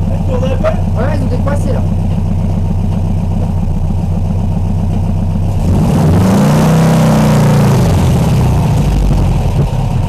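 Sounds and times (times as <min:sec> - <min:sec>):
car engine idling and revving: 0:00.0 - 0:10.0.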